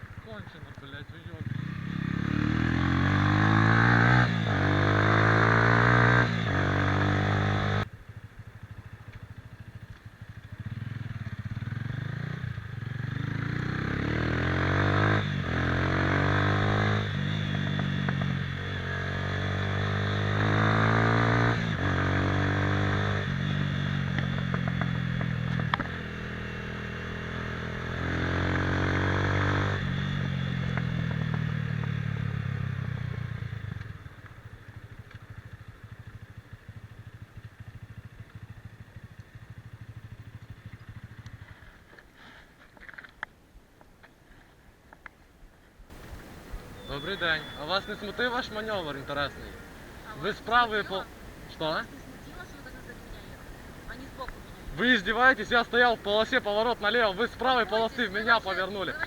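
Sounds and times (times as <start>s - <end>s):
motorcycle engine accelerating: 0.0s - 42.1s, 45.9s - 59.0s.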